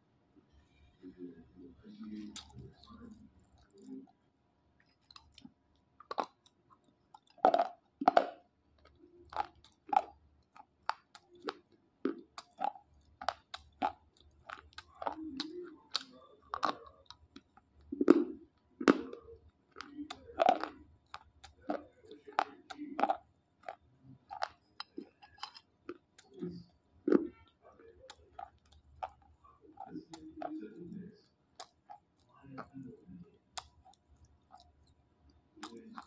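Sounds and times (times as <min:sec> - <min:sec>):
pencils being bitten and chewed: 0:02.0 - 0:04.2, 0:04.8 - 0:36.0.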